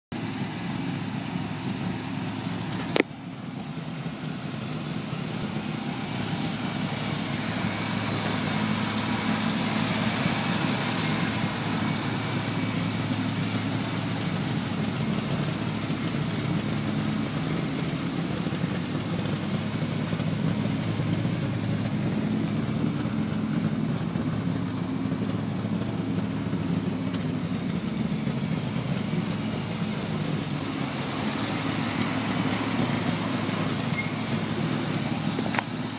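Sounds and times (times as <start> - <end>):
truck engine running: 0.1 - 35.9.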